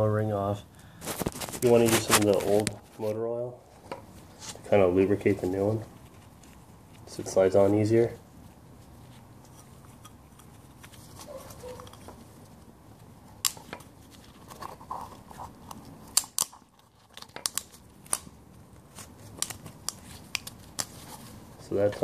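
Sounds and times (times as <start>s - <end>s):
handling noise: 1.0s - 22.0s.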